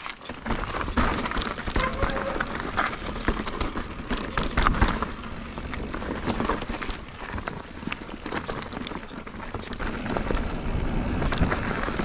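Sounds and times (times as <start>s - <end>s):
bike knocks and rattles: 0.0s - 12.0s
bike tyres rumbling and crunching: 0.0s - 12.0s.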